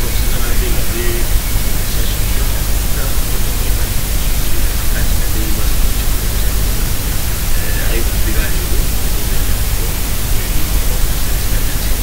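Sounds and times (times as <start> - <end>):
deep rumble: 0.0 - 12.0
faint man's voice: 0.0 - 12.0
loud hiss and static: 0.0 - 12.0.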